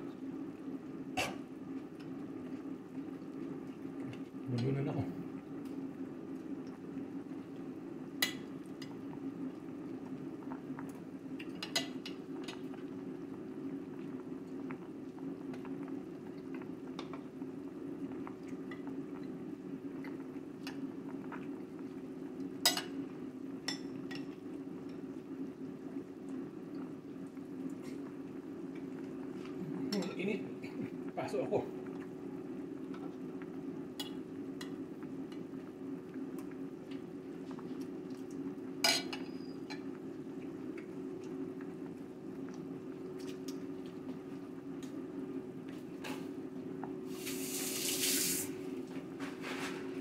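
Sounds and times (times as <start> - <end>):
soup boiling and bubbling: 0.0 - 50.0.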